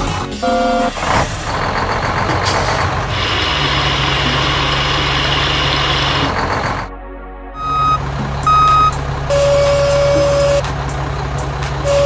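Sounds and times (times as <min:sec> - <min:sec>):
dump truck engine running: 0:00.0 - 0:06.9, 0:07.6 - 0:12.0
low hum: 0:00.0 - 0:12.0.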